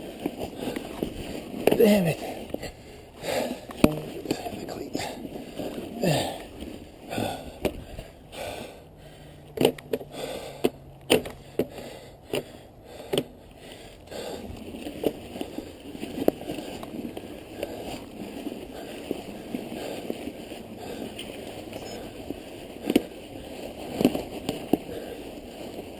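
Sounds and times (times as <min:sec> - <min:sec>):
bike rolling with small clicks: 0:00.0 - 0:25.9.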